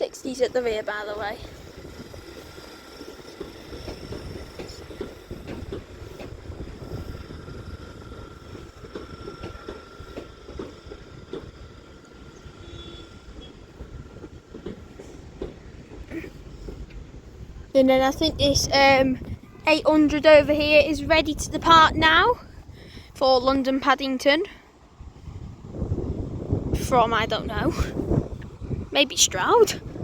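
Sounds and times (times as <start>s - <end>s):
train low rumble: 0.0s - 30.0s.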